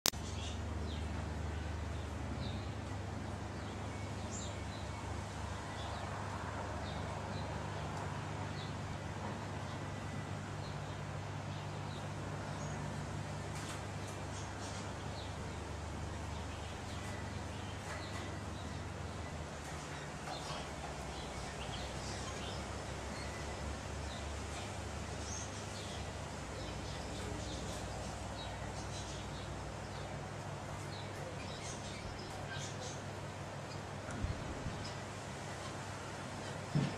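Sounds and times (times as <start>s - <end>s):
outdoor background noise: 0.0s - 36.9s
birds chirping: 0.1s - 36.9s.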